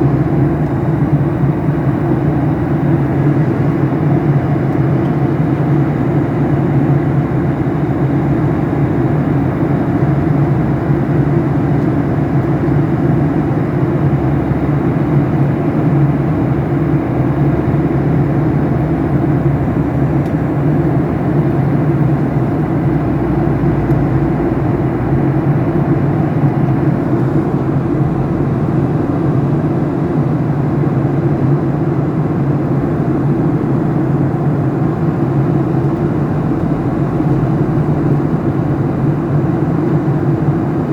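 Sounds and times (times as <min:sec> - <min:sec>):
airliner cabin engine rush: 0:00.0 - 0:40.9
constant low hum: 0:00.0 - 0:40.9.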